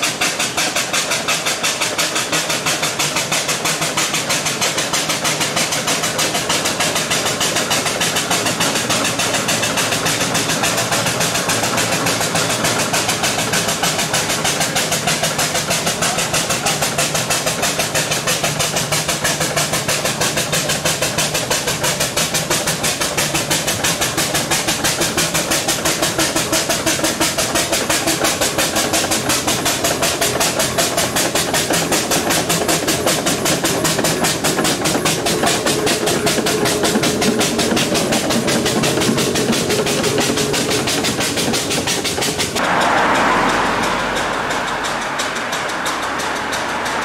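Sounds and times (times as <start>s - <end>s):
car engine: 0.0s - 47.0s
steam roller exhaust chuffing: 0.0s - 47.0s.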